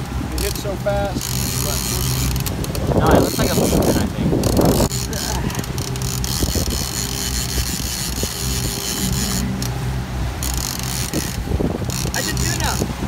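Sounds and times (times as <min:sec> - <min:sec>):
boat engine humming: 0:00.0 - 0:13.0
wind noise: 0:00.0 - 0:13.0.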